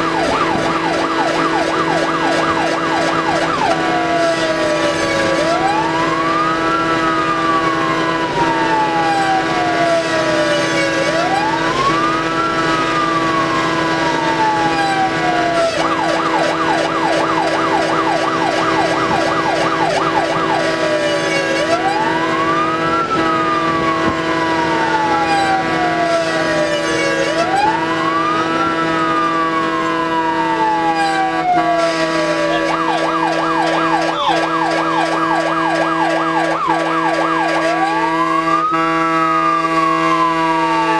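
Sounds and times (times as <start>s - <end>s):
fire engine siren: 0.0s - 40.9s.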